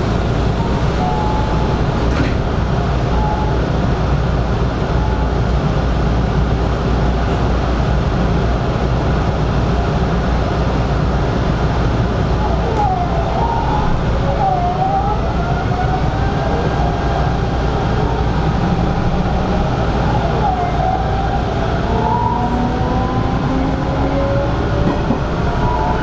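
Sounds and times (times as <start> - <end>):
electric train rumbling and whining: 0.0 - 26.0.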